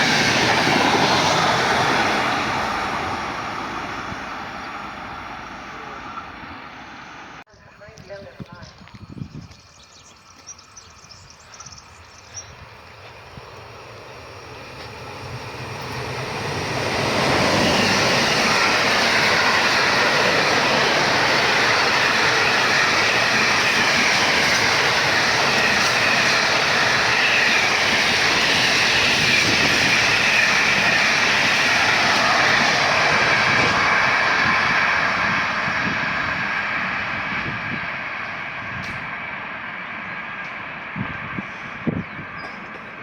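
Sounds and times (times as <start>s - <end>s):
train passing on rails: 0.0s - 43.0s.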